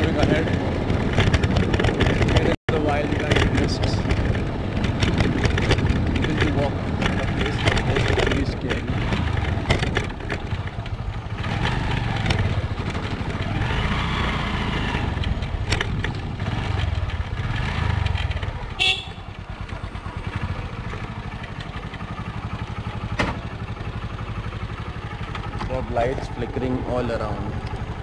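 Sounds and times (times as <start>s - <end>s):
motorcycle engine running: 0.0s - 28.0s
road and wind noise: 0.0s - 28.0s.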